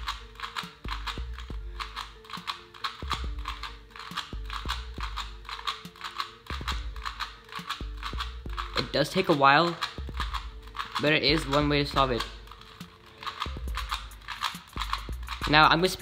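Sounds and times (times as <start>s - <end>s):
background music: 0.0s - 16.0s
plastic puzzle cube clicking: 0.0s - 16.0s.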